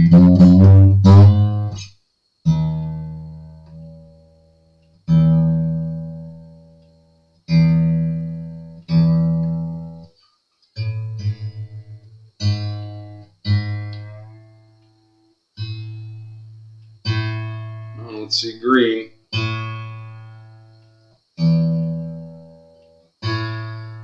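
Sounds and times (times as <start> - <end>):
acoustic guitar strings plucked: 0.0 - 4.4, 5.0 - 10.1, 10.8 - 14.6, 15.6 - 24.0.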